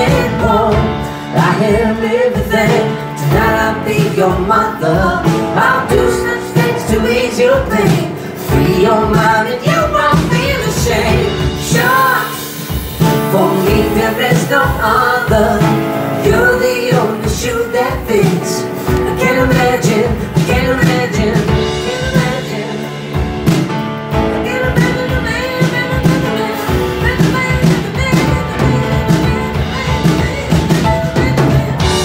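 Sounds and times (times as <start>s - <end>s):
woman singing into microphone: 0.0s - 23.1s, 24.3s - 32.0s
live rock band: 0.0s - 32.0s.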